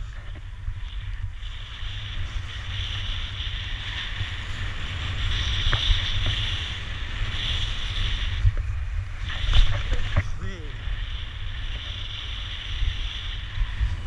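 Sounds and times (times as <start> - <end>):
skis sliding on snow: 0.0 - 14.0
wind buffeting microphone: 0.0 - 14.0.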